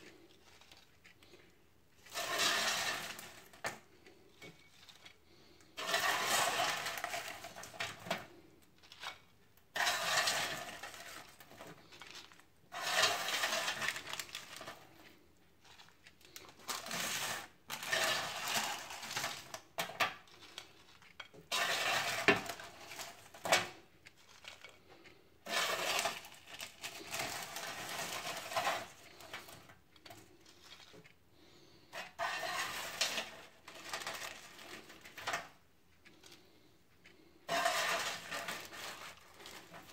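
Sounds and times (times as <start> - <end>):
paper rustling: 0.0 - 39.9
spatula scraping fries off tray: 2.0 - 24.8, 25.4 - 35.6, 37.4 - 39.9.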